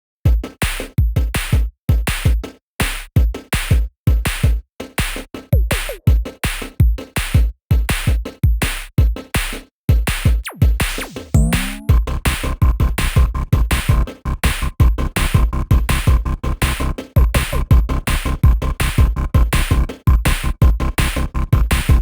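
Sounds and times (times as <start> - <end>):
electronic music with drum-machine beat: 0.3 - 22.0.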